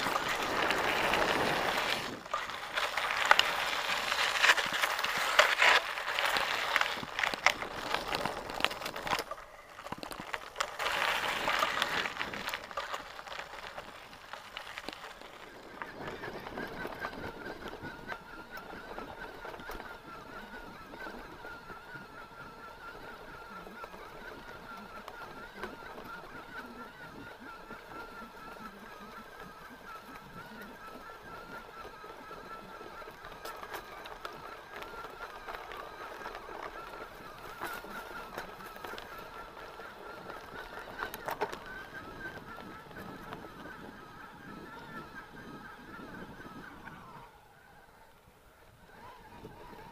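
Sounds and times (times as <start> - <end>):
tyre and frame rattle: 0.0 - 45.4
bike drivetrain whine: 0.0 - 49.9.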